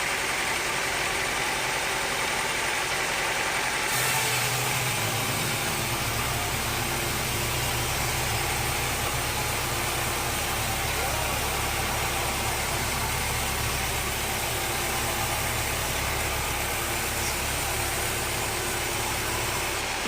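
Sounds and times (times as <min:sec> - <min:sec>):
sawmill machinery running: 0:00.0 - 0:20.0.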